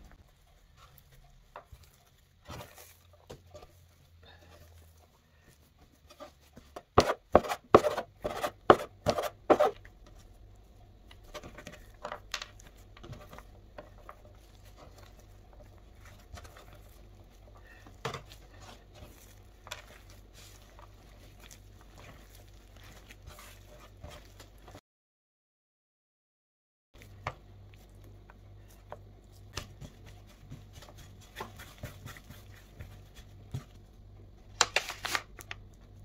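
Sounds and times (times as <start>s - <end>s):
dough pressing and handling: 0.0s - 24.8s, 27.0s - 36.0s
hands patting dough: 0.0s - 24.8s, 27.0s - 35.8s.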